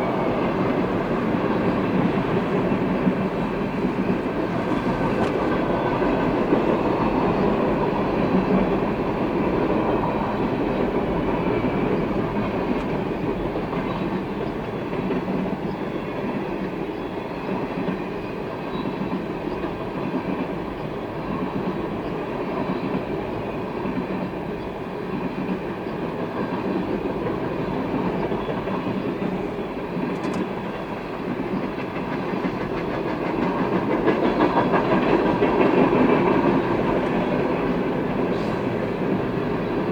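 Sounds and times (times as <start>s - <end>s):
freight train cars rolling past: 0.0s - 39.9s.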